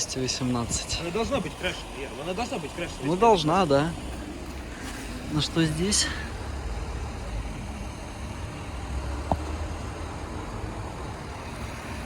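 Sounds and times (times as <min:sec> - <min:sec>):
motor vehicles rumbling: 0:00.0 - 0:12.0.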